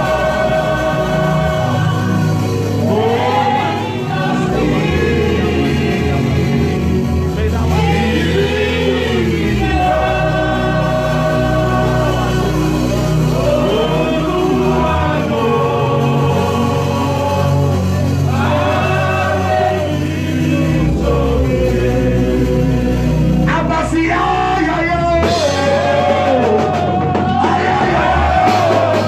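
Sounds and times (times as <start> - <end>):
instrumental accompaniment with bass: 0.0 - 29.0
voices singing held notes: 0.0 - 29.0.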